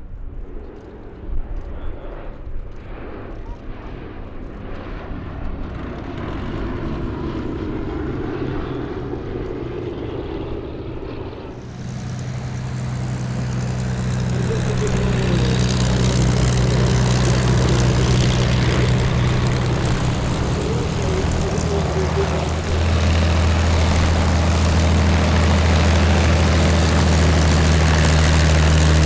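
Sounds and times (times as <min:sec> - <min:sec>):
propeller plane engine drone: 0:02.9 - 0:29.0.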